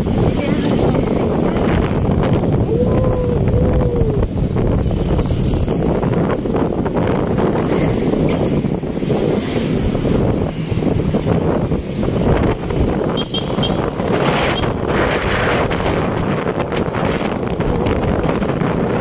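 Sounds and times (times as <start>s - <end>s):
motorcycle and road traffic rush: 0.0s - 19.0s
wind rushing over microphone: 0.0s - 19.0s.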